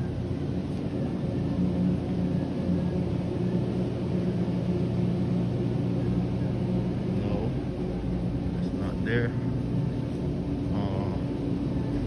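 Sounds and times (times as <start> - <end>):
refrigerated display cases humming: 0.0 - 12.0.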